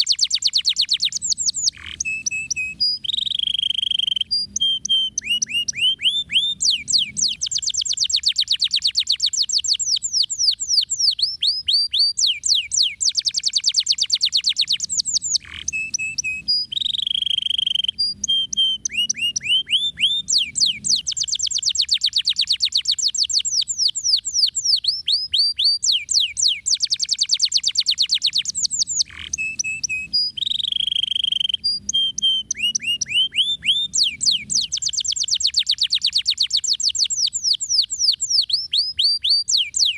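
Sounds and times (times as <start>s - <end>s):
canary held whistle: 0.0s - 39.9s
canary trilling: 0.0s - 39.9s.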